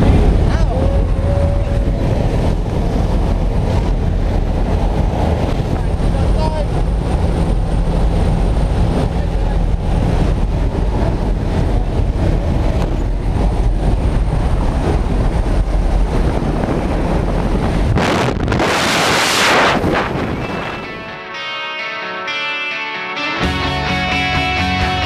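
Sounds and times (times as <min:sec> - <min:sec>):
wind rushing on microphone: 0:00.0 - 0:21.1
small plane engine rumble: 0:00.0 - 0:21.2.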